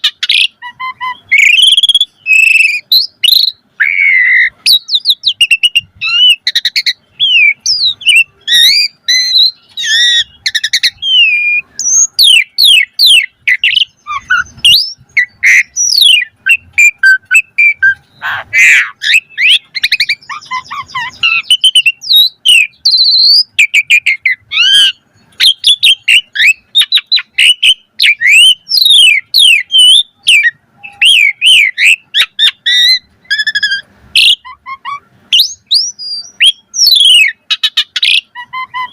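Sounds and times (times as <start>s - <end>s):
bird singing whistles and chirps: 0.0s - 38.9s.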